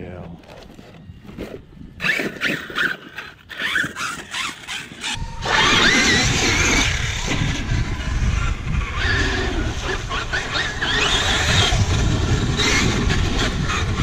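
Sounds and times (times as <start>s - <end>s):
electric motor whining: 0.9s - 14.0s.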